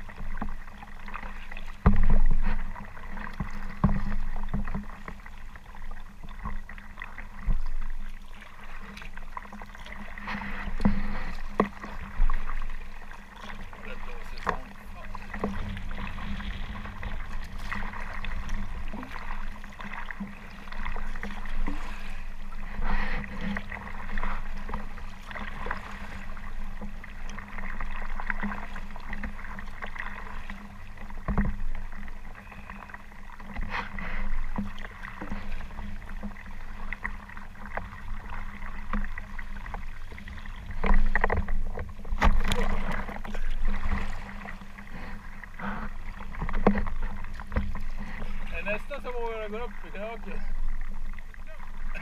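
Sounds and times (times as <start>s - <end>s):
paddle splashes: 0.0s - 52.0s
waves slapping against hull: 0.0s - 52.0s.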